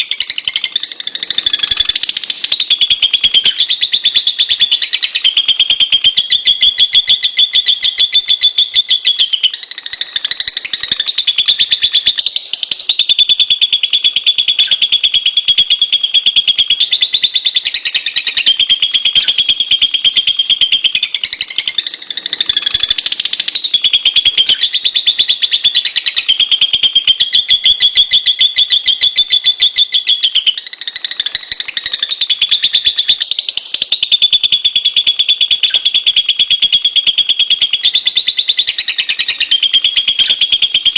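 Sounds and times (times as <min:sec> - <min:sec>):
lovebird chattering trill: 0:00.0 - 0:40.9.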